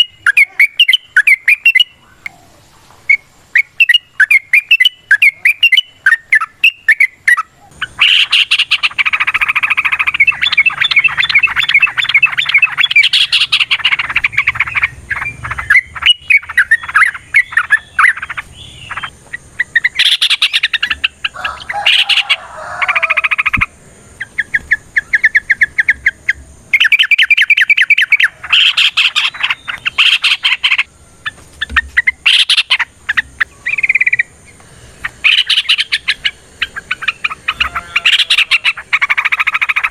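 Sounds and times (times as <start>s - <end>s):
birds singing chattering notes: 0.0s - 39.9s.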